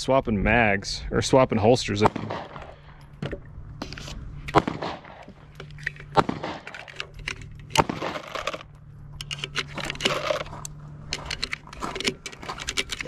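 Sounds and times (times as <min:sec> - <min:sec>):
cartridges clinking and rattling: 0:02.0 - 0:13.0.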